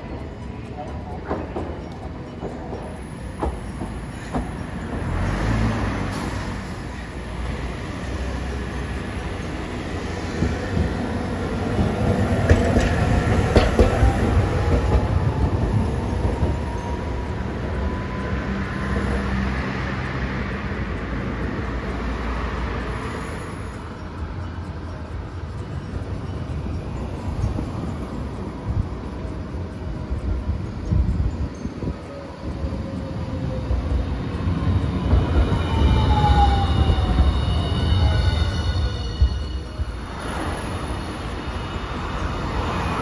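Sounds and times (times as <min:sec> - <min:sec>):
tram passing: 0:00.0 - 0:43.0
wheels clicking on rails: 0:00.0 - 0:43.0.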